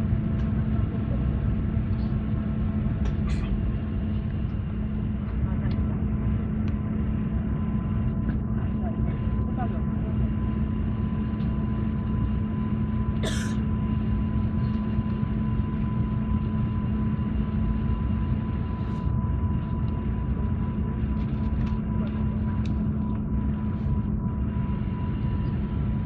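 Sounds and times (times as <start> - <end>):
airliner cabin rumble and hum: 0.0 - 26.0.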